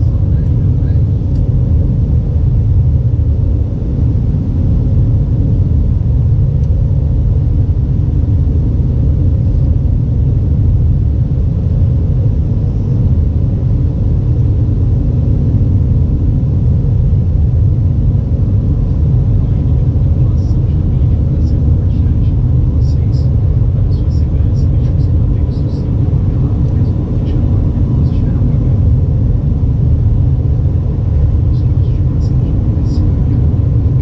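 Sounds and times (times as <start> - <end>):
airplane cabin rumble: 0.0 - 34.0
faint steady hum: 0.0 - 34.0.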